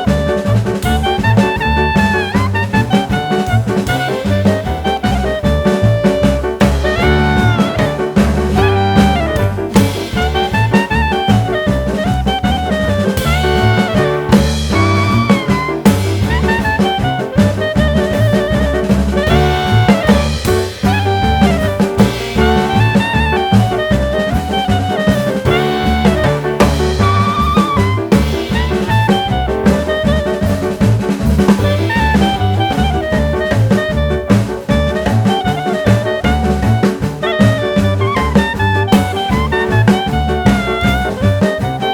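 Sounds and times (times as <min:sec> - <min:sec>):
bass: 0:00.0 - 0:41.9
drums with swing beat: 0:00.0 - 0:41.9
jazz music: 0:00.0 - 0:41.9
saxophone or brass melody: 0:00.0 - 0:41.9.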